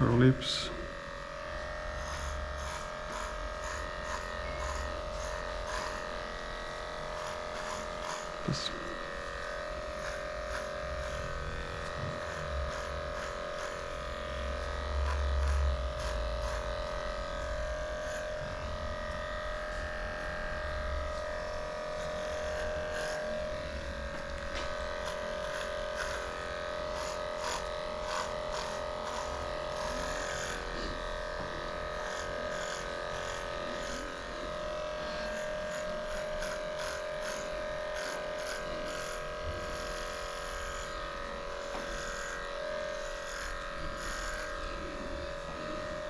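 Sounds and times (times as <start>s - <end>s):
electric clippers buzzing: 0.0s - 46.0s.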